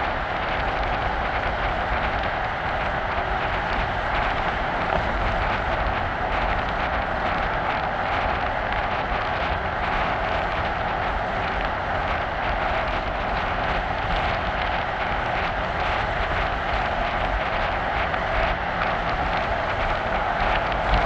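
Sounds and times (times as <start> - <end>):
car road rumble and hiss: 0.0 - 21.0.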